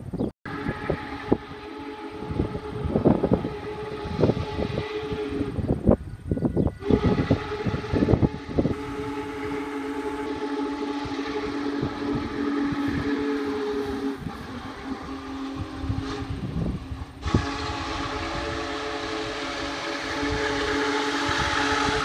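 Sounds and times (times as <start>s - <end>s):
wind buffeting microphone: 0.0s - 22.0s
steam locomotive whistle: 0.5s - 22.0s.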